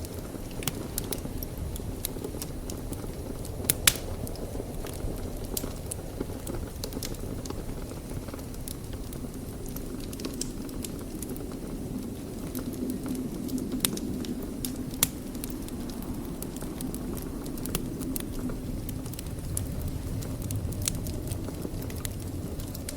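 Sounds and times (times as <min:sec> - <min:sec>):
burning logs crackling and popping: 0:00.0 - 0:22.9
fire flames rumbling: 0:00.0 - 0:22.9.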